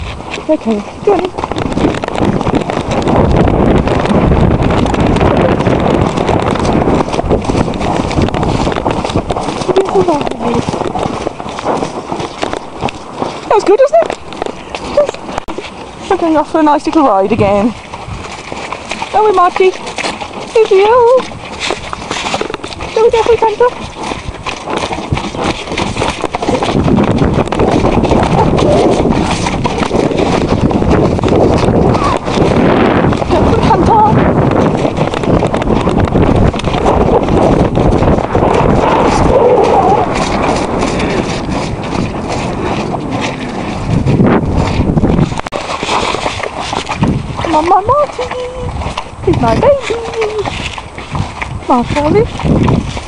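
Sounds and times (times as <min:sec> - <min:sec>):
horse hoofbeats cantering: 0:00.0 - 0:53.0
wind rushing over microphone: 0:00.0 - 0:53.0.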